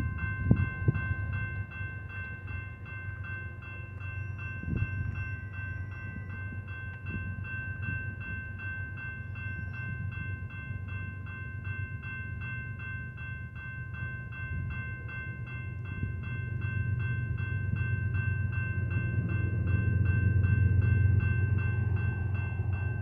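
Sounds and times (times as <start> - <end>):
railroad crossing bell ringing: 0.0 - 23.0.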